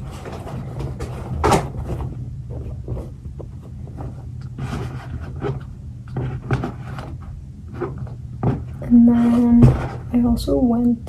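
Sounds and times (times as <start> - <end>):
small items rustling and clattering: 0.0 - 10.3
steady low hum: 0.0 - 11.0.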